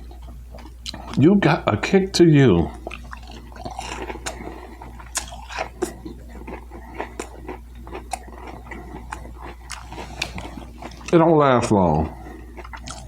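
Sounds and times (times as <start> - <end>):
crunchy chewing clicks: 0.0 - 1.3, 2.6 - 13.0.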